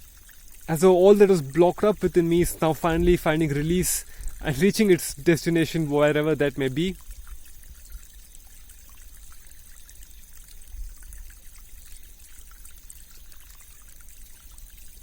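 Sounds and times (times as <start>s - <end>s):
stream water flowing over rocks: 0.0s - 15.0s.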